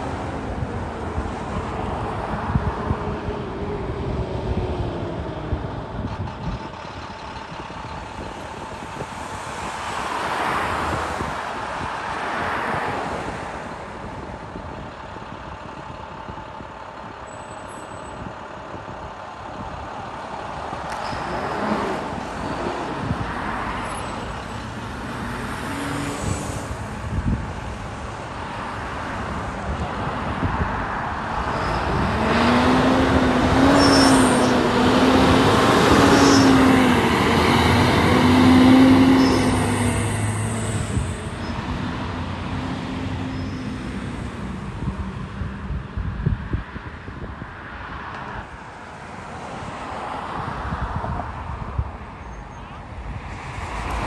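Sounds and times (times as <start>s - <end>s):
bus engine running: 0.0s - 47.6s
traffic noise: 0.0s - 54.0s.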